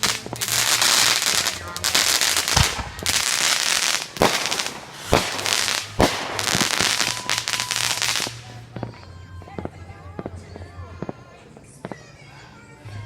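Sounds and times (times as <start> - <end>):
fireworks bangs: 0.0 - 12.1
fireworks crackling: 0.0 - 12.2.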